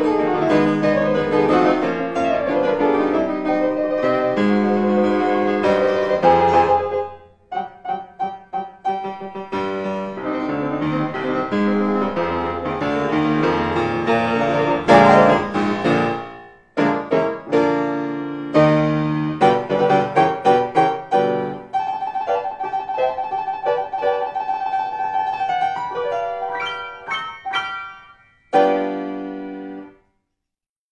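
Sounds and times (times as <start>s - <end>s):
lively piano music: 0.0s - 30.1s.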